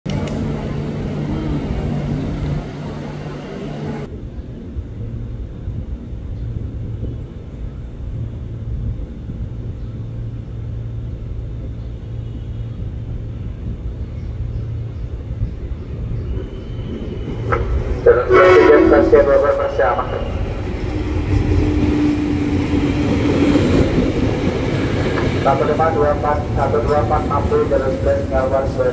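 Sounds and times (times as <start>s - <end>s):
electric train rumbling: 0.1s - 28.9s.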